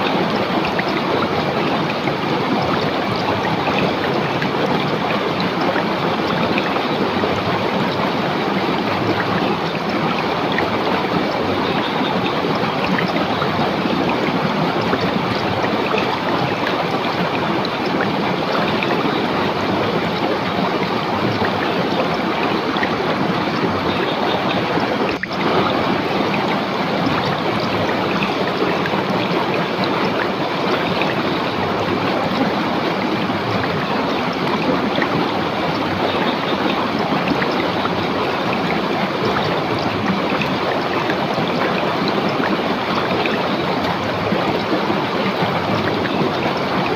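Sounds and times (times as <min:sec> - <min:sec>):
river water rushing over rocks: 0:00.0 - 0:46.9.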